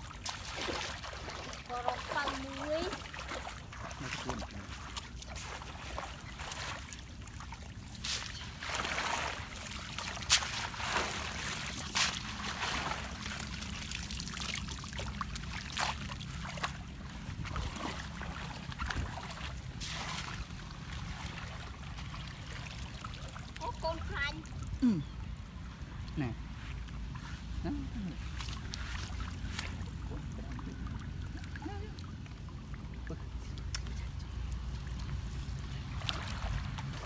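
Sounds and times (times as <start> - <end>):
water splashing and trickling: 0.0 - 37.0.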